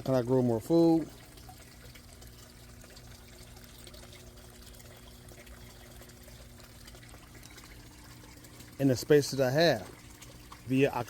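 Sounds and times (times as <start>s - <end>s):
water trickling and pouring: 0.0s - 11.0s.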